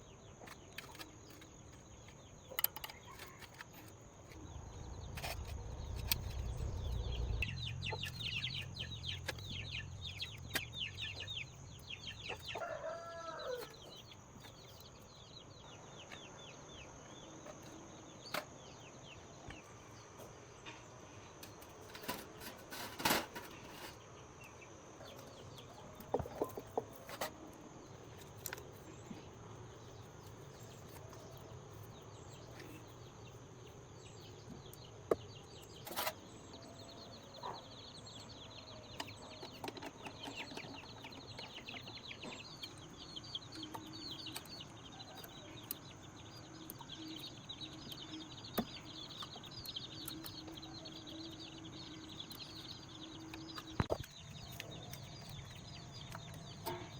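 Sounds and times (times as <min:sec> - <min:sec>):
birds chirping: 0:00.0 - 0:22.6, 0:23.4 - 0:56.9.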